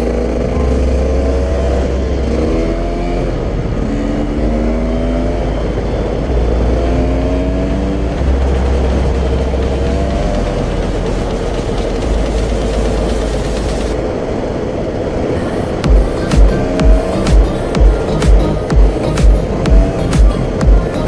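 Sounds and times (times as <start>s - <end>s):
dirt bike engine revving: 0.0s - 14.0s, 15.8s - 21.0s.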